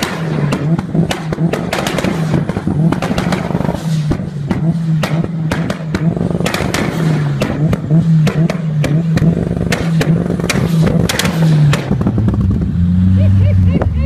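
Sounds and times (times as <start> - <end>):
exhaust banging and popping: 0.0 - 12.8
car engine drone: 0.0 - 14.0.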